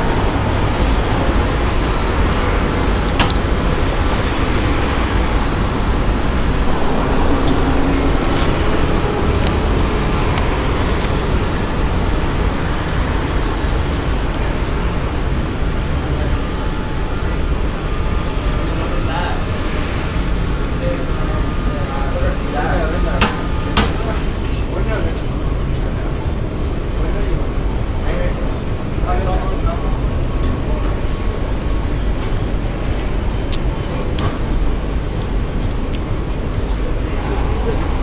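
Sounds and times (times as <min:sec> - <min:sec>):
roadside traffic noise: 0:00.0 - 0:38.0.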